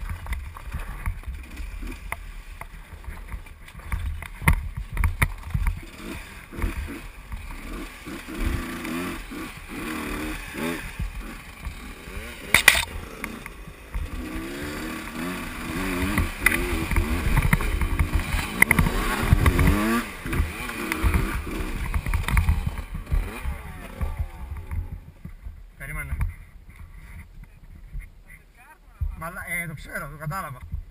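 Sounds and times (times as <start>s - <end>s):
dirt bike engine revving: 0.0s - 25.2s.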